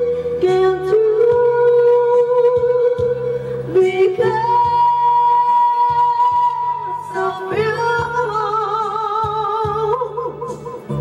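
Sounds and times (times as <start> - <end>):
backing track: 0.0 - 11.0
woman singing into microphone: 0.0 - 11.0.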